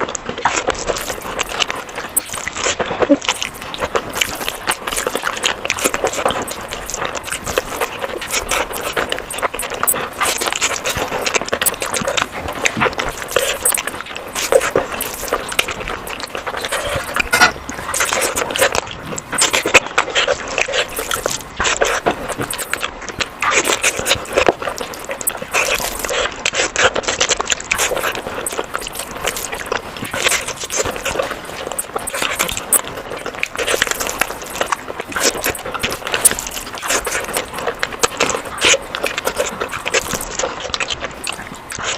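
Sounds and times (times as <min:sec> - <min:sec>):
wet chewing: 0:00.0 - 0:41.9.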